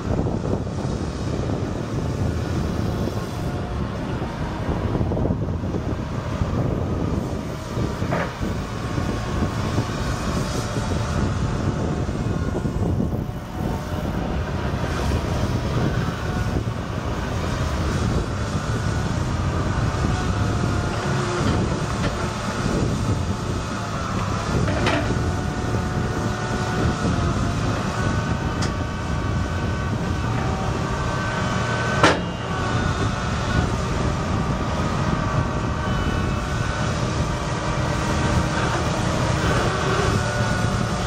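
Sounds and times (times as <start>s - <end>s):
excavator diesel engine running: 0.0s - 41.0s
hydraulics working: 0.0s - 41.0s.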